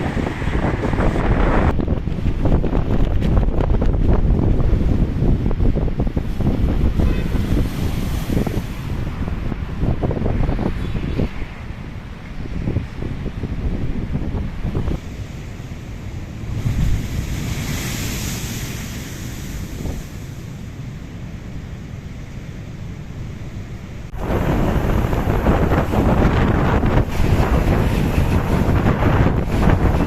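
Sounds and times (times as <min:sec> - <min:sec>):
wind buffeting microphone: 0:00.0 - 0:20.7, 0:24.1 - 0:30.0
storm waves breaking on shore: 0:00.0 - 0:30.0.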